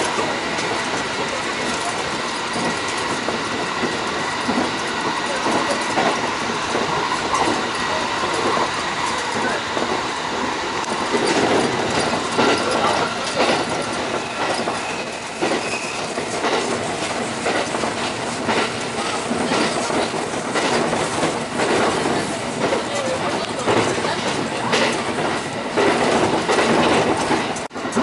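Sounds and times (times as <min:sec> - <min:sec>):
clatter over rail joints: 0:00.0 - 0:28.0
train wheels rumbling on rail: 0:00.0 - 0:28.0.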